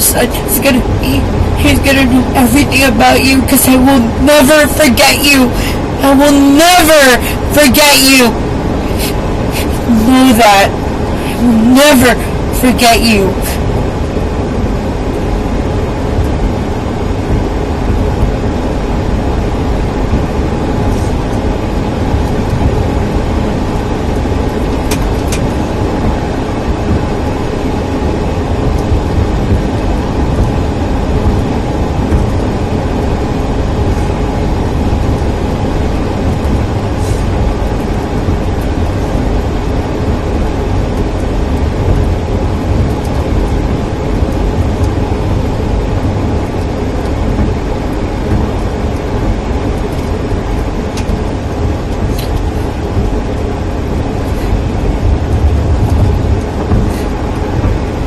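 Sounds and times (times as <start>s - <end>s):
road and engine rumble inside car: 0.0s - 58.0s.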